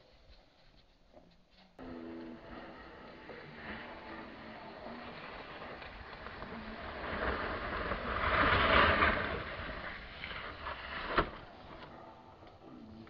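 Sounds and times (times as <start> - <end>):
snowboard scraping over snow: 1.8 - 13.0
wind rumble on microphone: 2.1 - 13.0.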